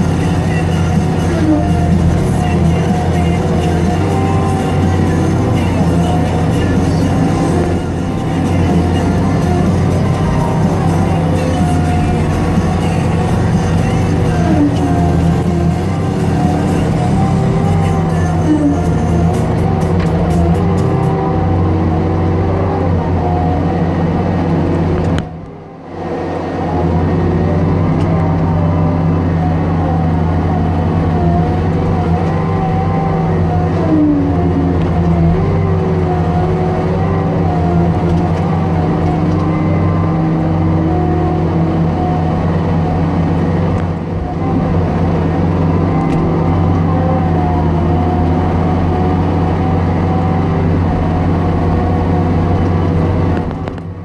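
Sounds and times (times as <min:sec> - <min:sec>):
diesel machine drone with whine: 0:00.0 - 0:54.0.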